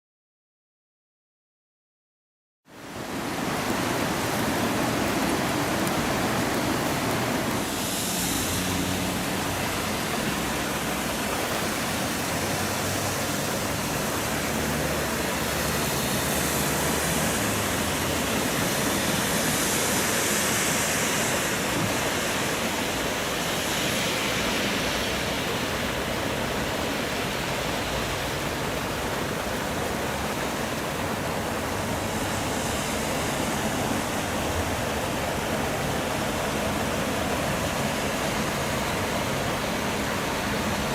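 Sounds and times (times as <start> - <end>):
river water rushing through sluice: 2.7 - 40.9.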